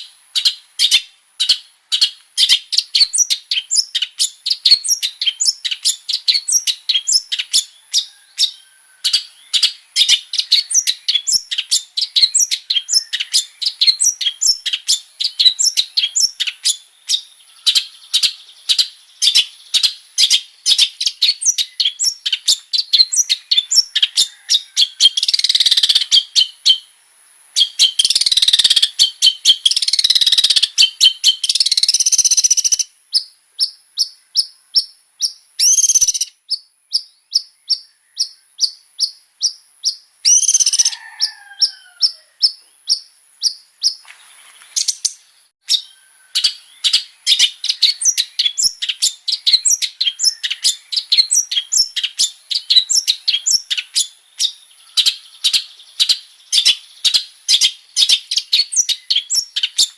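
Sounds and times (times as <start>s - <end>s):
shrike singing: 0.0s - 26.9s, 27.6s - 44.0s, 44.8s - 59.9s.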